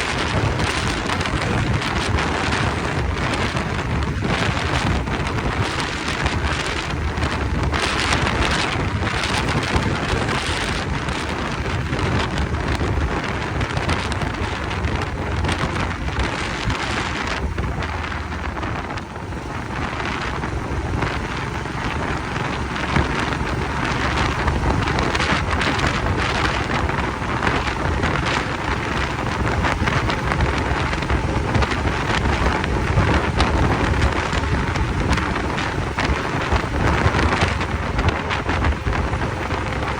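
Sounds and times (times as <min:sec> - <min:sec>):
motorcycle low rumble: 0:00.0 - 0:39.9
wind rushing over microphone: 0:00.0 - 0:39.9.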